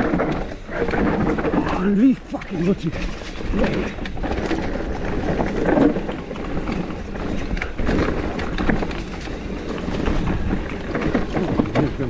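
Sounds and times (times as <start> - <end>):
bike clattering over bumps: 0.0 - 12.0
tyres rolling on dirt: 0.0 - 12.0
wind rumbling on microphone: 0.0 - 12.0.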